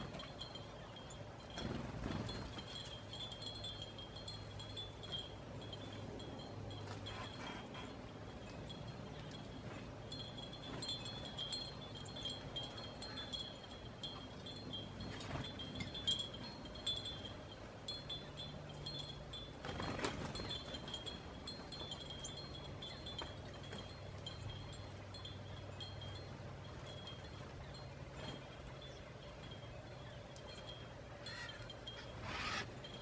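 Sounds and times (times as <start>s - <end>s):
wind chime ringing: 0.0s - 33.0s.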